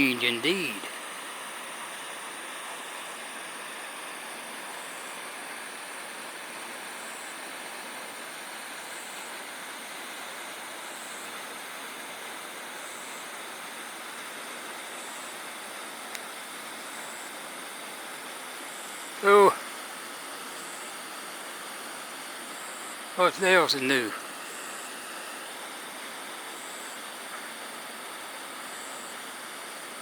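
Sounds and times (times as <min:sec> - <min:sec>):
faint high-pitched whine: 0:00.0 - 0:30.0
steady background hiss: 0:00.0 - 0:30.0.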